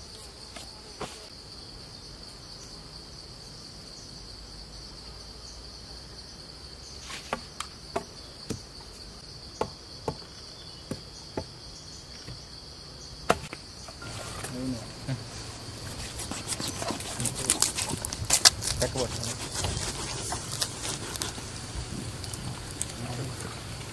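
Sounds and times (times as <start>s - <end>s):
insects chirring: 0.0s - 23.9s.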